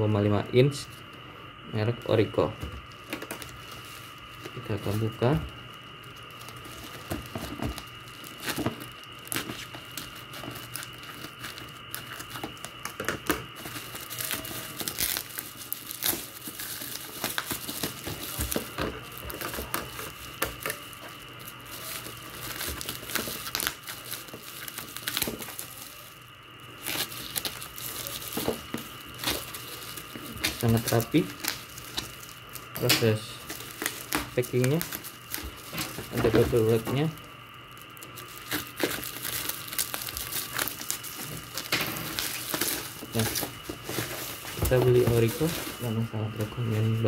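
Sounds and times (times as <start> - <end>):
plastic wrap crinkling and ripping: 1.8 - 47.0.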